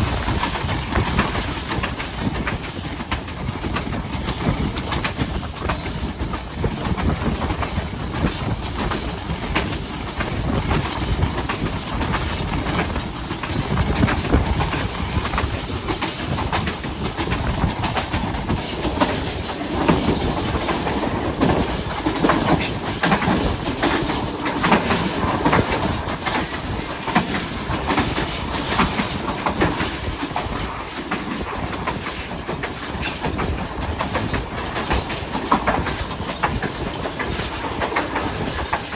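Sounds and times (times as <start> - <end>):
train rumbling on track: 0.0 - 38.9
wheels clicking over rails: 0.0 - 38.9.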